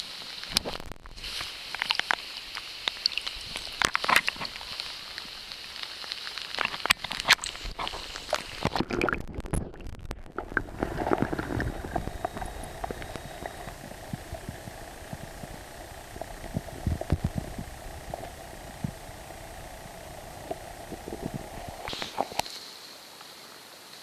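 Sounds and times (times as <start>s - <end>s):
river current underwater: 0.0s - 23.0s
water splashing: 0.1s - 22.6s.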